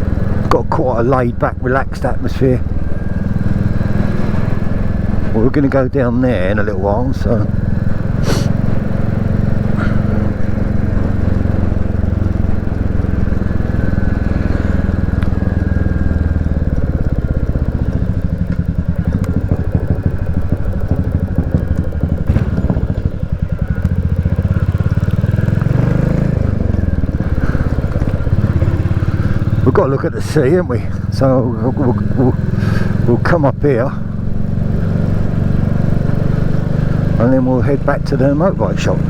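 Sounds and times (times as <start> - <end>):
motorcycle engine running on road: 0.0 - 39.0.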